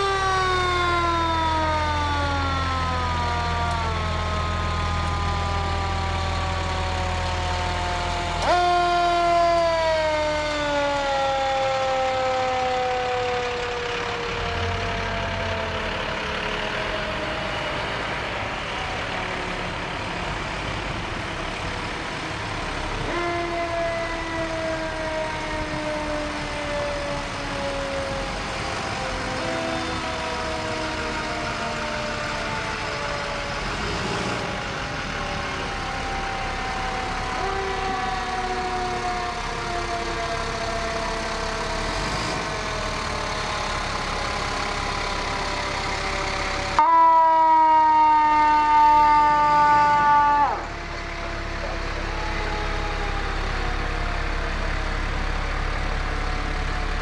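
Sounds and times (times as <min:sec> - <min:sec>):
diesel engine idling: 0:00.0 - 0:46.9, 0:47.5 - 0:57.0.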